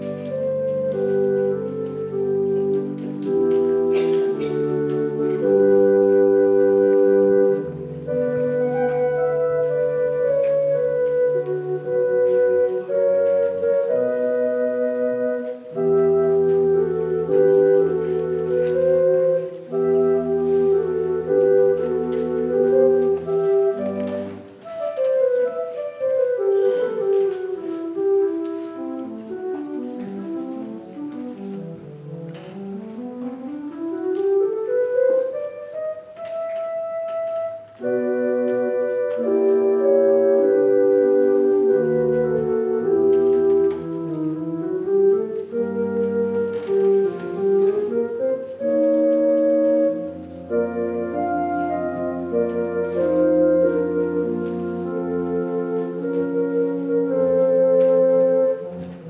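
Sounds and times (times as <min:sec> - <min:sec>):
organ playing slow chords: 0:00.0 - 0:29.6, 0:36.9 - 0:59.0.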